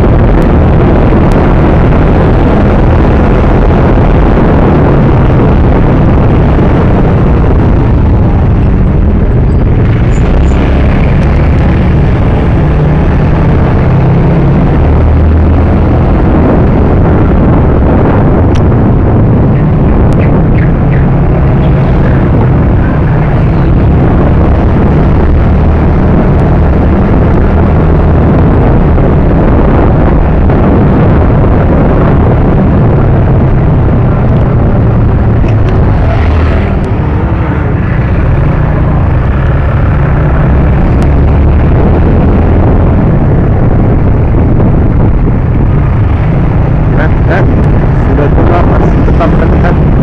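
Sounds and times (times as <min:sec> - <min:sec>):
motorcycle engine roar: 0:00.0 - 0:50.0.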